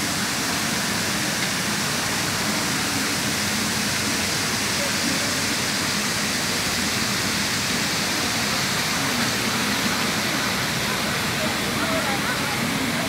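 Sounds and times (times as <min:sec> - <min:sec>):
murmur of distant voices: 0:00.0 - 0:13.0
train station ambience hiss: 0:00.0 - 0:13.0.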